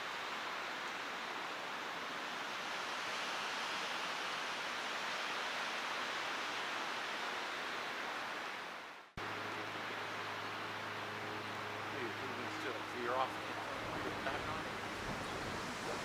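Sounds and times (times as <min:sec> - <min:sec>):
strong wind through branches: 0:00.0 - 0:16.0.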